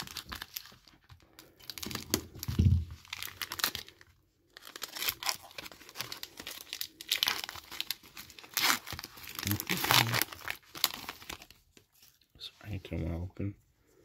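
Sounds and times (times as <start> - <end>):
wrapper tearing and crinkling: 0.0 - 12.2.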